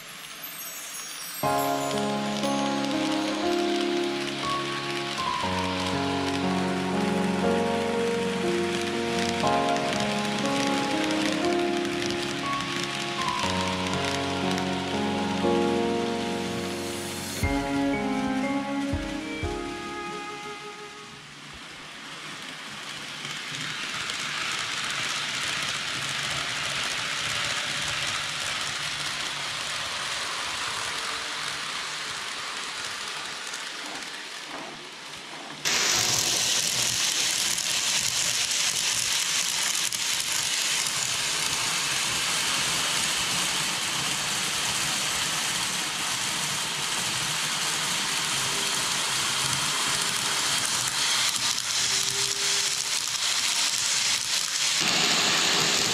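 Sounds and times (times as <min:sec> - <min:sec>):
model trains running on track: 0:00.0 - 0:55.9.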